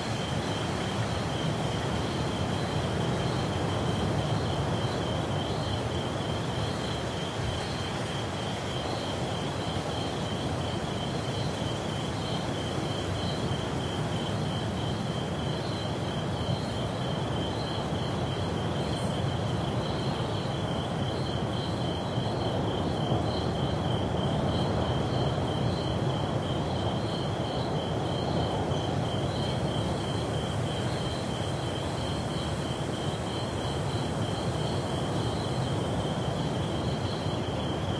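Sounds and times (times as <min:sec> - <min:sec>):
insect chirping pulse: 0:00.0 - 0:37.9.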